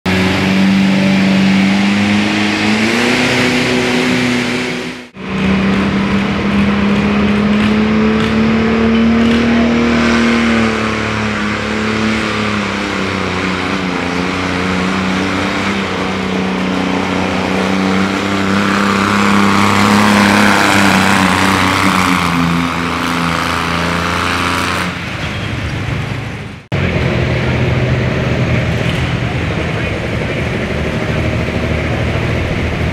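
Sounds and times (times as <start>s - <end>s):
diesel tractor engine high revs: 0.0s - 32.9s.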